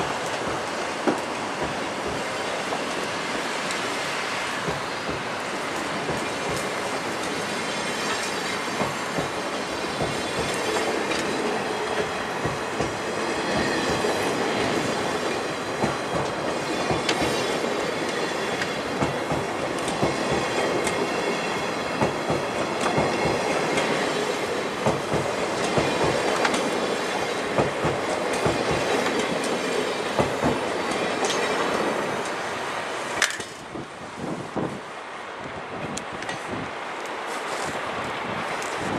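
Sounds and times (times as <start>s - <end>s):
train wheels clicking over rail joints: 0.0s - 32.4s, 33.1s - 33.9s.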